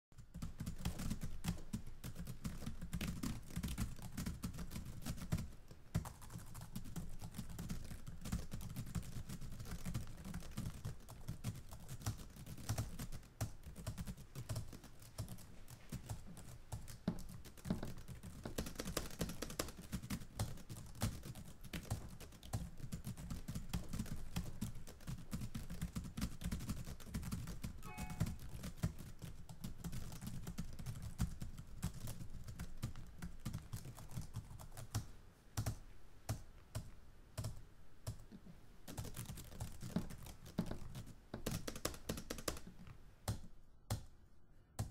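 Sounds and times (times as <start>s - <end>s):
keyboard typing: 0.2s - 38.3s, 38.9s - 44.1s.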